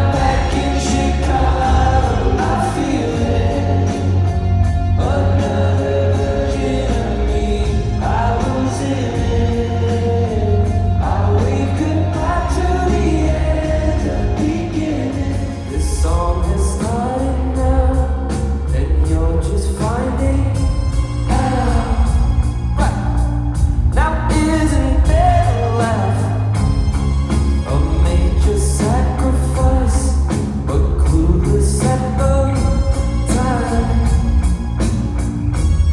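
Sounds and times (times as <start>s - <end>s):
person singing: 0.0s - 23.3s, 24.0s - 26.6s, 27.6s - 34.5s
pop-rock band music: 0.0s - 35.9s.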